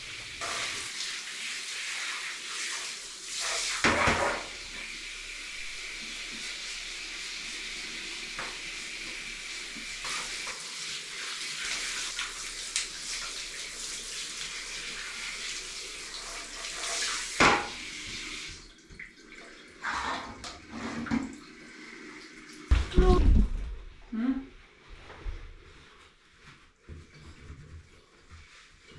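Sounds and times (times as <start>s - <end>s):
water running from a tap: 0.0s - 23.7s.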